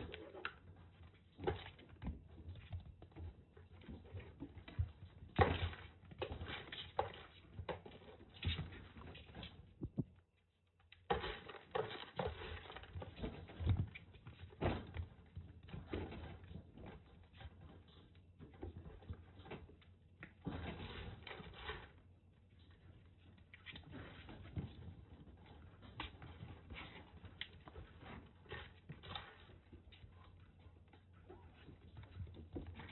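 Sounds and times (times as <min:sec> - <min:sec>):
kittens' paws scrabbling and thumping: 0:00.0 - 0:32.9.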